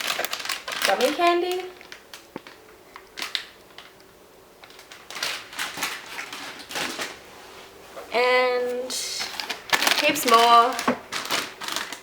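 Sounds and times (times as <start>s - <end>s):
candy wrappers crinkling: 0.0s - 7.2s, 8.9s - 12.0s.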